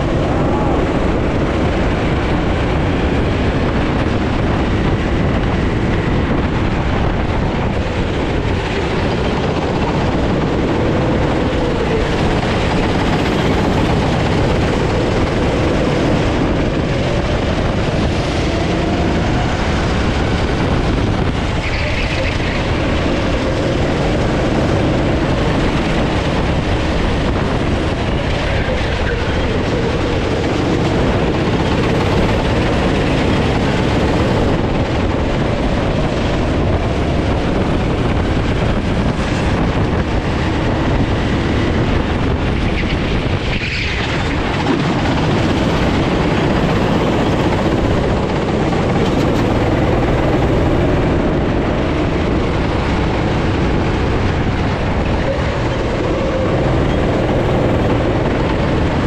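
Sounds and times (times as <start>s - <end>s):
constant rushing noise: 0.0s - 59.0s
go-kart engine revving: 0.0s - 59.0s.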